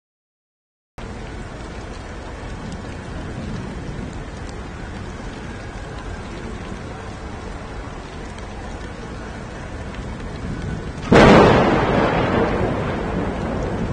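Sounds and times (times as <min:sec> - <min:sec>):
heavy rain on pavement: 0:01.0 - 0:13.9.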